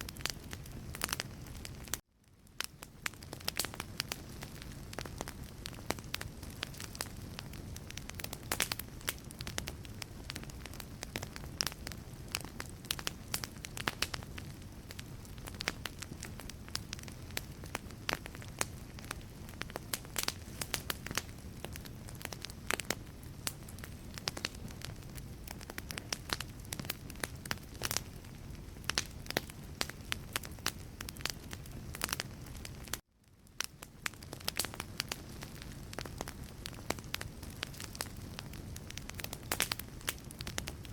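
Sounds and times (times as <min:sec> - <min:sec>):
fire low rumble: 0:00.0 - 0:40.9
wood fire crackling and popping: 0:00.0 - 0:40.9.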